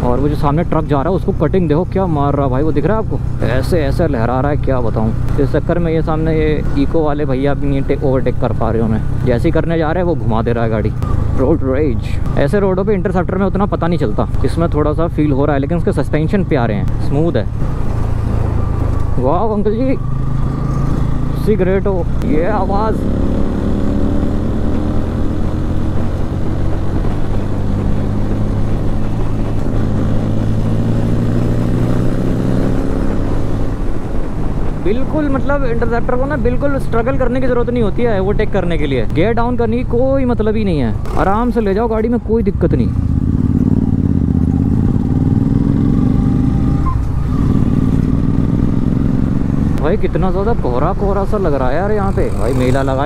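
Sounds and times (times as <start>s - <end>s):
motorcycle engine cruising: 0.0s - 53.0s
wind and road noise: 0.0s - 53.0s.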